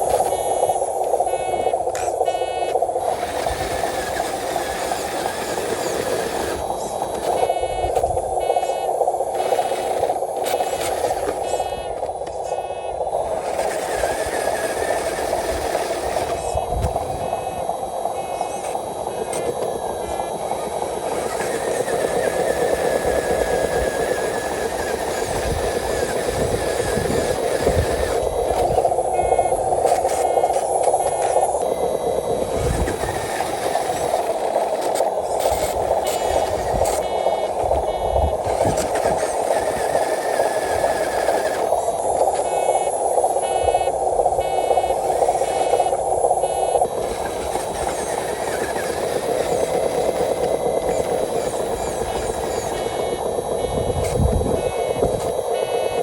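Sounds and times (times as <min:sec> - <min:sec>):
beeping: 0:00.0 - 0:56.0
thin high whine: 0:00.0 - 0:56.0
toy truck electric motor running: 0:00.0 - 0:56.0.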